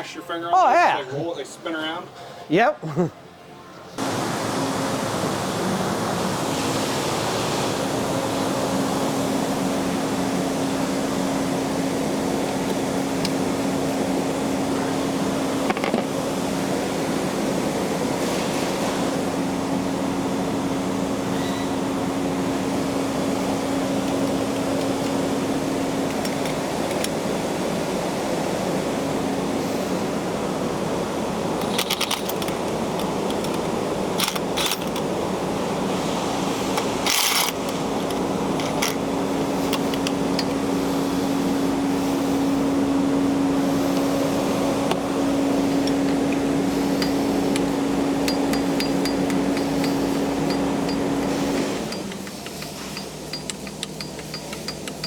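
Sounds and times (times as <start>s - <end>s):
machine hum: 2.9s - 55.0s.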